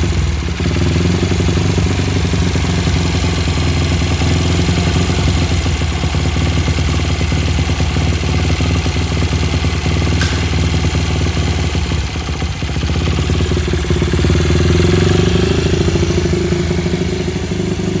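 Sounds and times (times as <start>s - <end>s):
small engine idling and revving: 0.0s - 18.0s.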